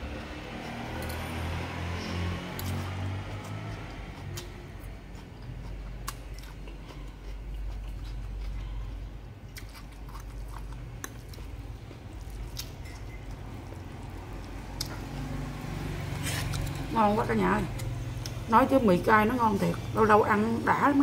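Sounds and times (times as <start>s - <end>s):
person chewing noodles: 0.1s - 16.9s, 17.7s - 18.5s.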